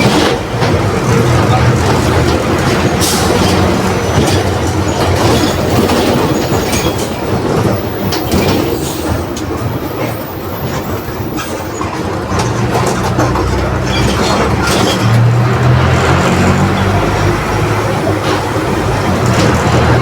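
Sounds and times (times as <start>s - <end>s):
bus body rattling: 0.0s - 20.0s
bus engine hum: 0.0s - 20.0s
road noise: 0.0s - 20.0s.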